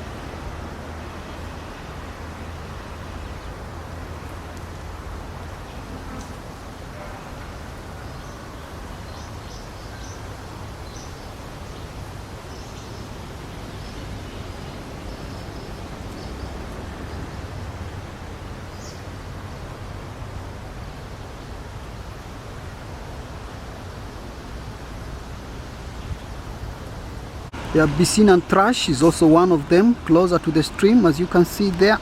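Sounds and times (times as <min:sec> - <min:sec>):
rushing outdoor noise with rumble: 0:00.0 - 0:32.0.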